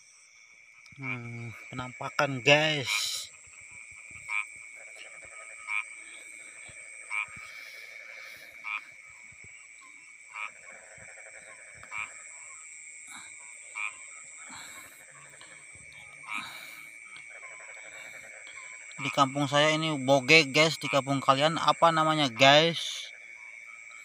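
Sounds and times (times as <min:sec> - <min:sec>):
frog croaking: 0:00.0 - 0:24.0
high insect drone: 0:00.0 - 0:24.0.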